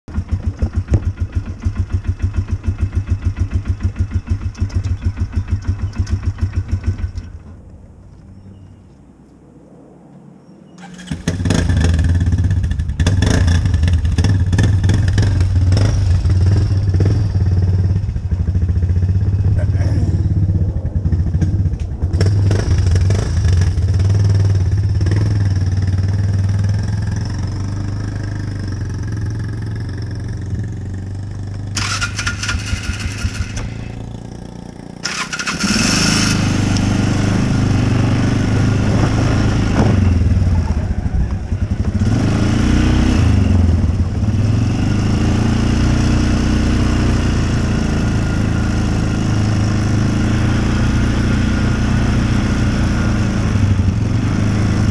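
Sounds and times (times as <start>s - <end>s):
off-road vehicle engine revving: 10.8s - 54.9s.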